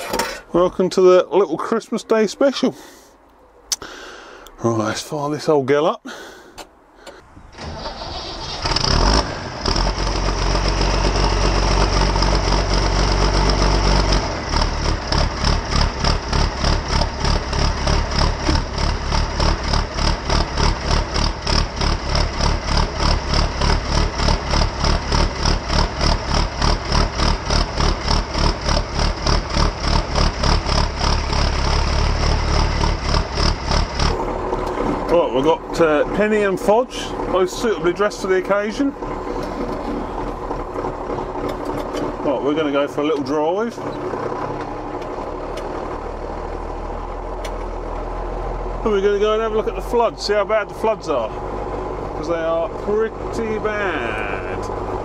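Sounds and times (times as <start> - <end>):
tractor engine cranking: 0.0 - 4.9, 6.5 - 55.0
diesel engine idling: 0.0 - 55.0.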